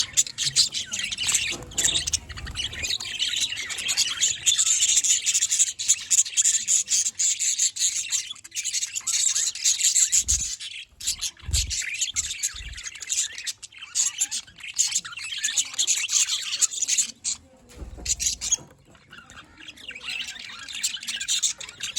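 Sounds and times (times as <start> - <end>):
budgerigars chattering and chirping: 0.0 - 21.9.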